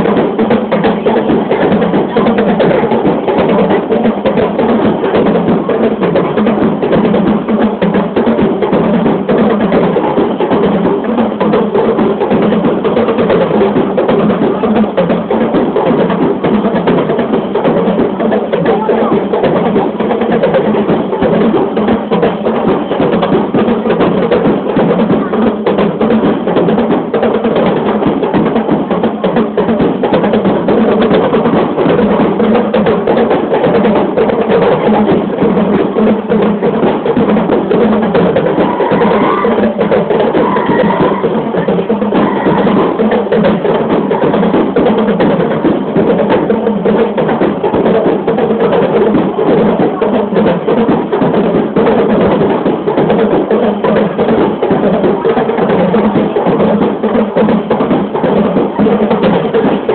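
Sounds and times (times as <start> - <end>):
drums and wood-block percussion music: 0.0 - 59.9.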